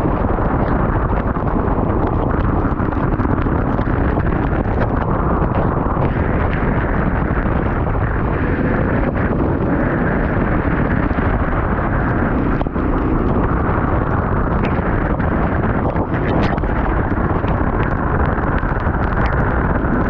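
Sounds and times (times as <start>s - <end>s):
wind noise on microphone: 0.0s - 20.0s.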